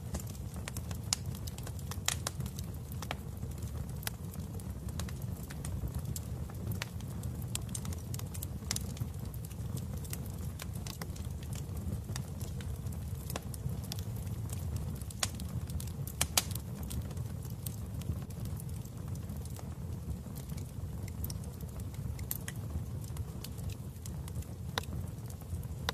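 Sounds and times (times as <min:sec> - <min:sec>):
fireplace fire crackling: 0:00.0 - 0:25.9
sharp pops and snaps of fire: 0:00.0 - 0:25.9.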